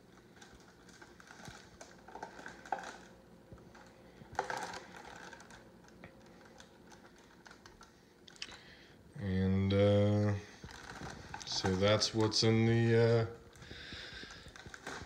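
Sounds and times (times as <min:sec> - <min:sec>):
plastic bag crinkling: 0:00.0 - 0:08.8, 0:09.6 - 0:15.0.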